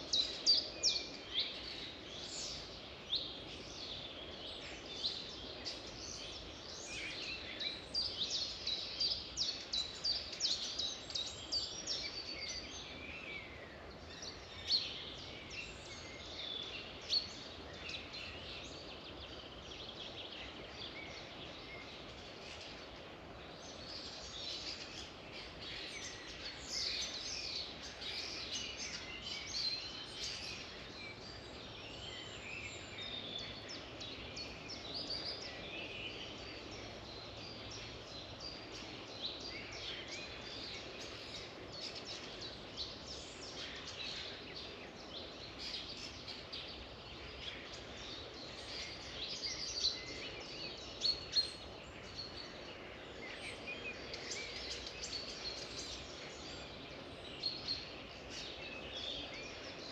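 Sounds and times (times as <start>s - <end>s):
faint outdoor hiss: 0.0s - 59.9s
songbirds chirping and trilling: 0.0s - 59.9s.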